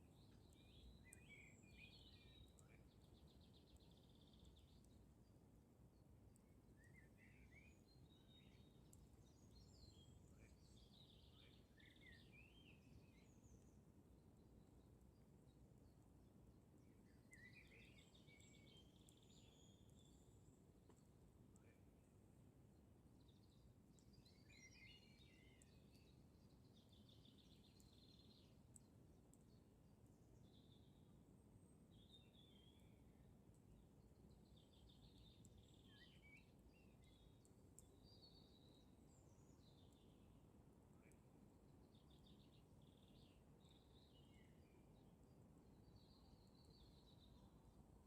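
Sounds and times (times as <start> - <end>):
campfire crackles: 0.0 - 12.0, 12.7 - 24.3, 25.1 - 45.6
small birds chirping: 0.0 - 22.1, 23.0 - 48.0
low steady hiss: 0.0 - 48.0.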